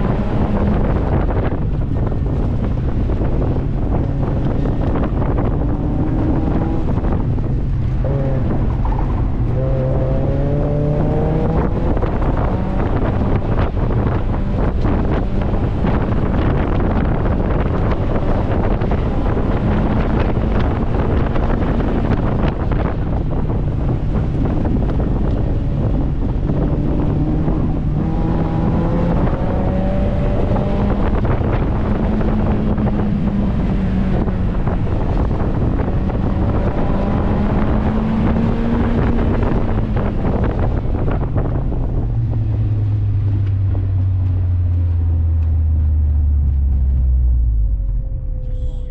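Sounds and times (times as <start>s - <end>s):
car engine accelerating: 0.0s - 48.9s
wind buffeting microphone: 0.0s - 48.9s.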